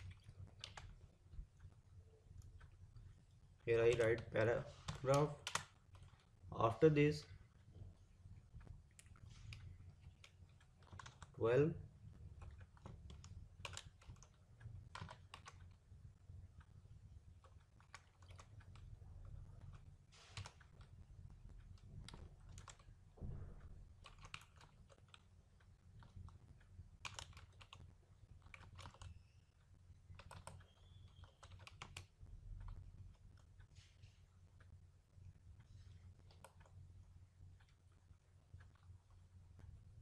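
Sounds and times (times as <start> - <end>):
keyboard typing: 0.0 - 7.4, 8.4 - 36.9
low steady hum: 0.0 - 40.0.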